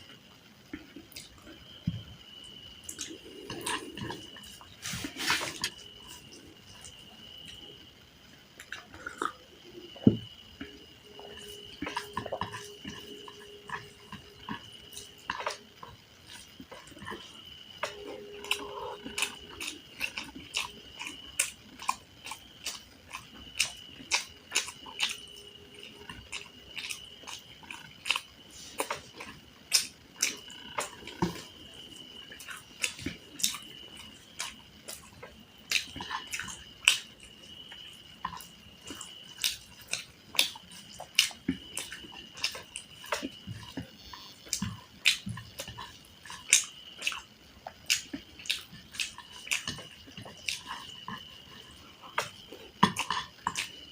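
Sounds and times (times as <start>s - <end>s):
faint high whine: 0.0s - 52.8s
mouth smacking while chewing: 2.9s - 7.6s, 8.6s - 10.0s, 10.6s - 53.9s.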